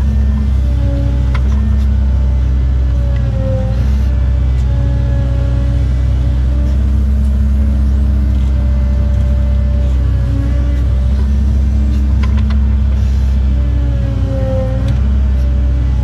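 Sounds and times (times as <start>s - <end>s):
excavator diesel engine and hydraulics: 0.0s - 16.0s
hydraulic whine: 0.0s - 16.0s.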